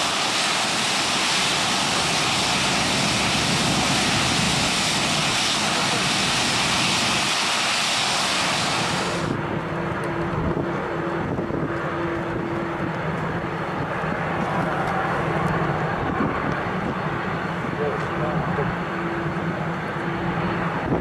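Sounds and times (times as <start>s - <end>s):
jet engine rumble: 0.0s - 21.0s
jet engines hissing and whining: 0.0s - 21.0s
wind on microphone: 0.1s - 21.0s.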